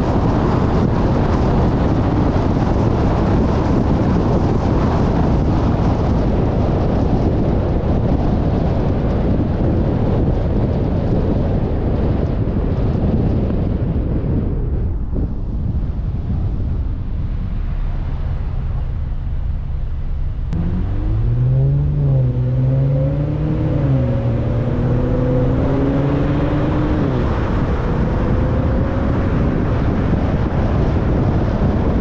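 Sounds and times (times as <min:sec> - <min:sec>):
car road noise: 0:00.0 - 0:32.0
wind rushing over microphone: 0:00.0 - 0:32.0.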